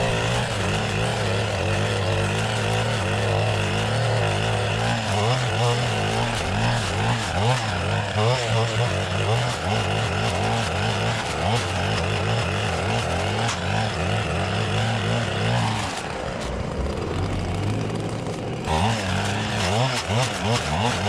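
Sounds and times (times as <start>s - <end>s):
clearing saw engine cutting brush: 0.0s - 21.0s.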